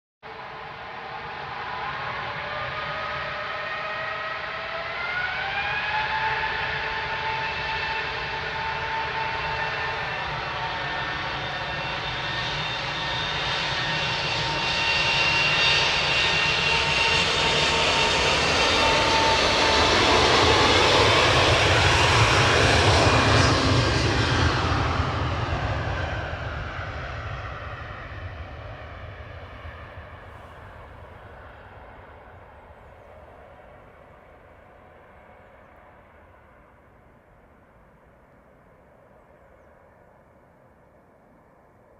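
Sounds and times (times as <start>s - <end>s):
jet engines at takeoff: 0.2s - 41.9s.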